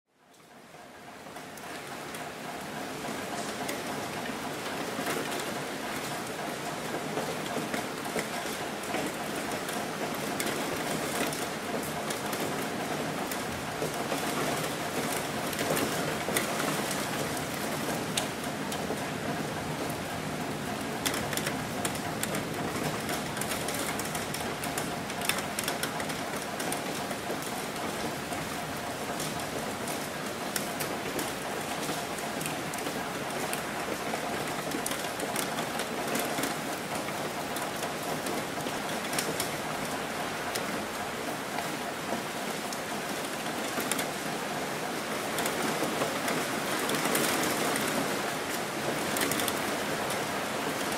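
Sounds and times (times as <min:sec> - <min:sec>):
steady rain falling: 0:00.2 - 0:50.9.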